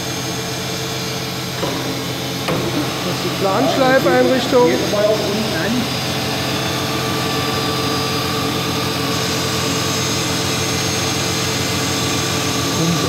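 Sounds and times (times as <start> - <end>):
grinding machine humming and whining: 0.0 - 13.0.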